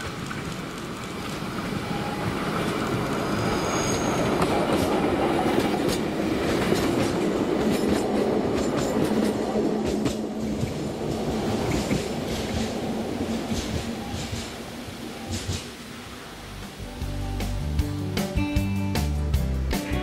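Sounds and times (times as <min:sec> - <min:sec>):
train running on rails: 0:00.0 - 0:18.5.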